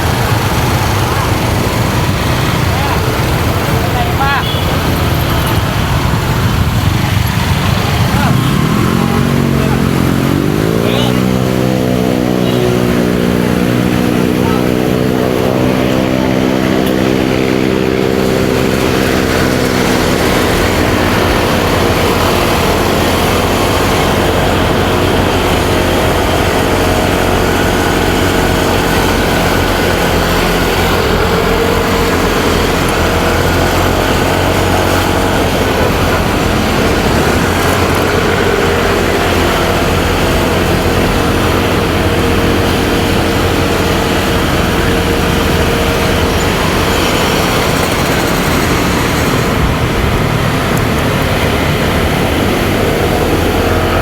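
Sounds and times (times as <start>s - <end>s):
motorcycle engine running: 0.0s - 54.0s
surrounding traffic: 0.0s - 54.0s
wind and road noise: 0.0s - 54.0s.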